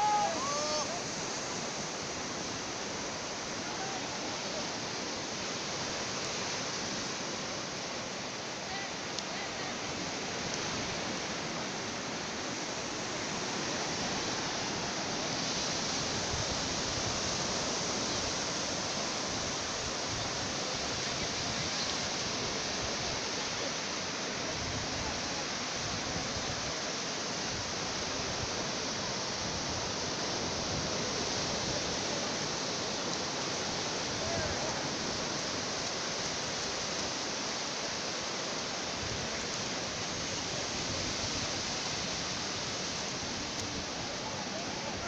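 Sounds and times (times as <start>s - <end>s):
sea surf breaking: 0.0s - 45.0s.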